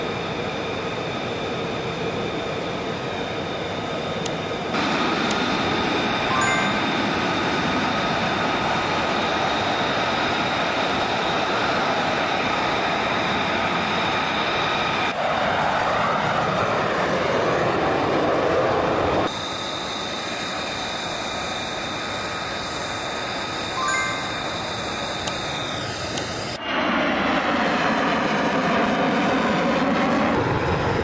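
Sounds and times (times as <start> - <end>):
jet engine whine and roar: 0.0 - 31.0.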